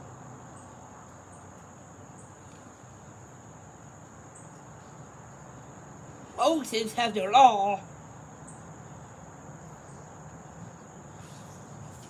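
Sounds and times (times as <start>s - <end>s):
insects chirring: 0.0s - 12.0s
low background hum: 0.0s - 12.0s.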